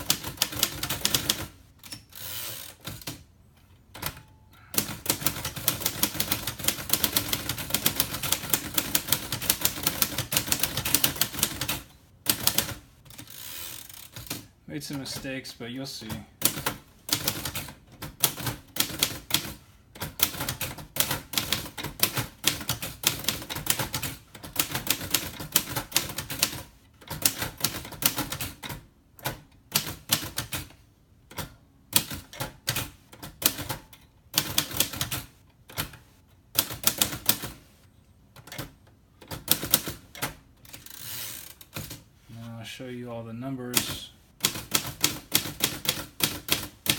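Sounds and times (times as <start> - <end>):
typewriter keystrokes clacking: 0.0 - 2.0, 3.9 - 13.3, 16.0 - 30.7, 31.3 - 37.6, 38.4 - 40.8, 43.7 - 46.9.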